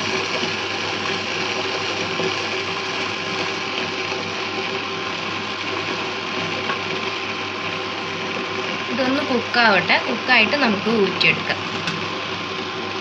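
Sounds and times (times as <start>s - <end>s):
induction cooktop whirring hum: 0.0s - 13.0s.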